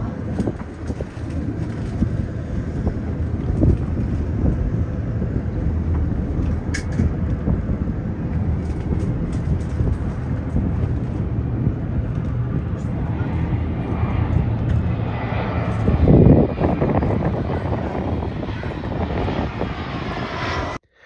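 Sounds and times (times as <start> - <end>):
wind buffeting microphone: 0.0 - 20.8.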